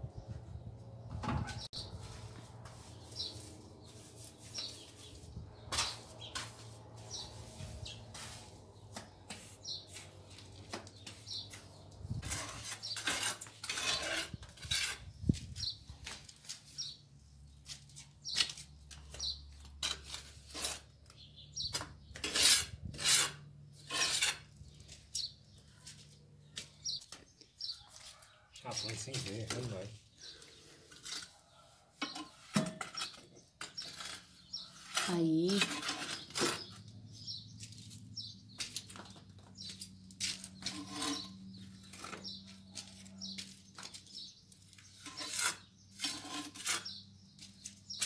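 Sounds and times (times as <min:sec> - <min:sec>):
trowel scraping mortar: 0:01.5 - 0:17.0, 0:17.7 - 0:25.3, 0:29.4 - 0:36.9, 0:39.7 - 0:48.0.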